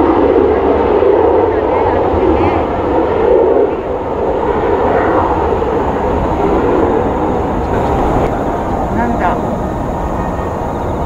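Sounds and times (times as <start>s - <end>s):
jet engines roaring on takeoff: 0.0s - 11.0s.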